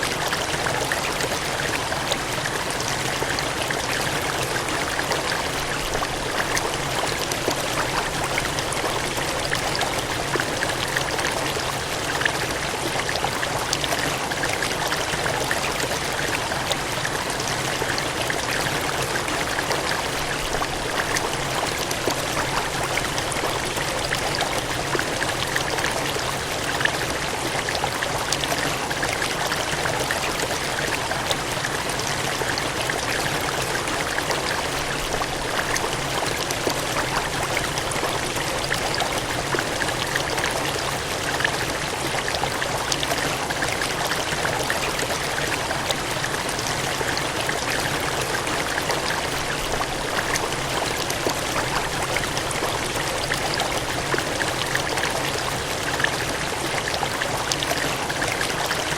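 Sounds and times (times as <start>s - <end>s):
water gushing and splashing: 0.0s - 58.9s.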